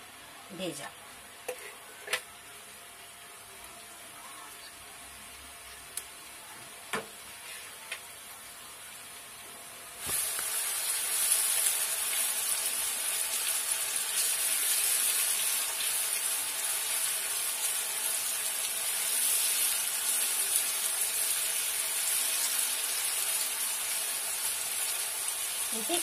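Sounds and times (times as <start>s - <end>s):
onions sizzling in a frying pan: 0.5s - 26.0s.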